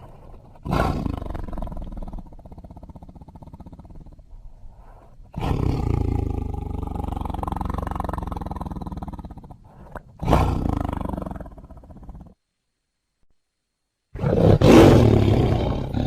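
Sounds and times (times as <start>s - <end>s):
tiger roaring: 0.0s - 4.2s, 5.3s - 12.4s, 14.2s - 16.0s.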